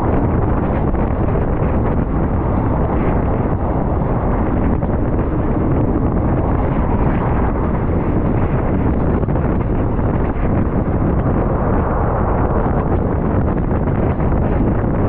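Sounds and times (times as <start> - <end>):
moving vehicle noise: 0.0 - 15.0
wind buffeting microphone: 0.0 - 15.0.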